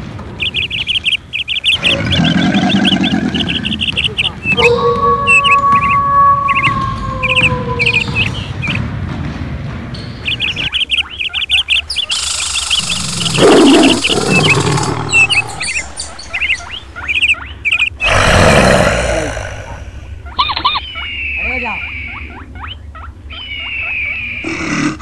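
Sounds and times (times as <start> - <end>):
small birds chirping: 0.0 - 8.9, 9.9 - 25.0.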